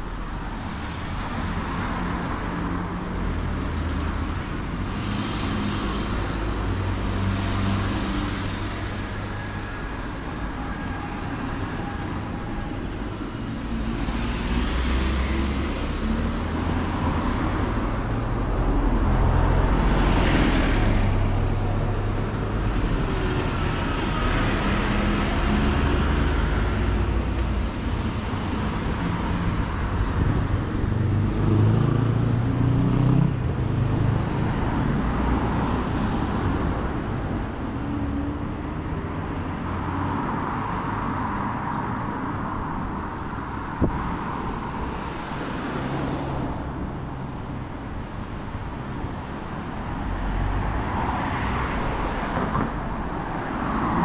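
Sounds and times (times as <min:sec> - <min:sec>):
cars and trucks passing: 0:00.0 - 0:54.0
rumble of traffic engines: 0:00.0 - 0:54.0.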